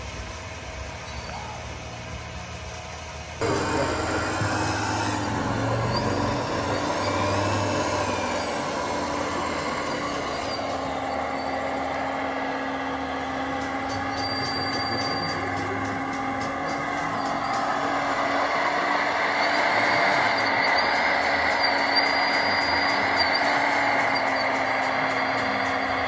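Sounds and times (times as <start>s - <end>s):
model vehicle motor and gear whine: 0.0s - 26.0s.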